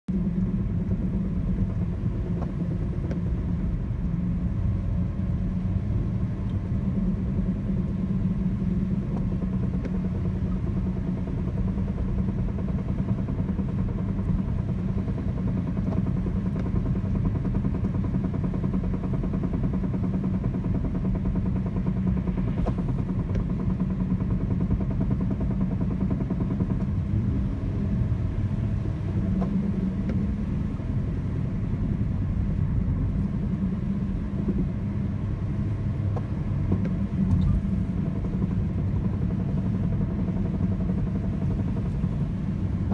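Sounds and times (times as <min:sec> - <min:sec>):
car engine running: 0:00.1 - 0:42.9.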